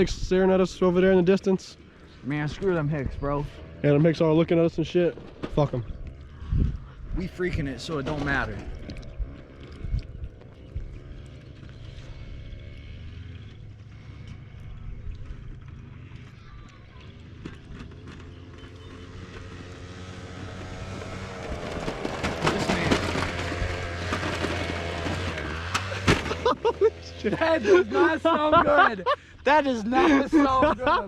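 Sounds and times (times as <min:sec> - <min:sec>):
moped engine running: 0:00.0 - 0:31.0.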